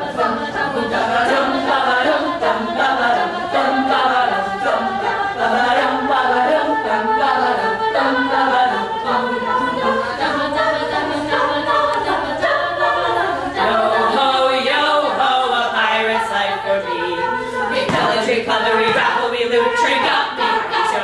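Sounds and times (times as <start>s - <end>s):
women's a cappella singing: 0.0s - 21.0s.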